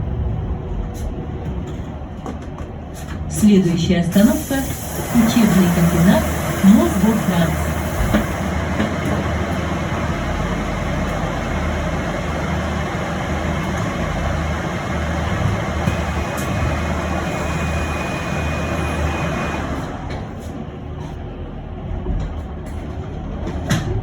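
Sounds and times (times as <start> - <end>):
bus road rumble and hiss: 0.0 - 24.0.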